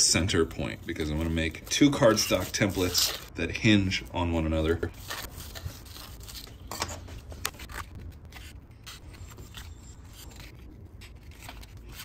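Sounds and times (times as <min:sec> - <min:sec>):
paper scraping: 0:00.5 - 0:03.3, 0:04.7 - 0:12.0.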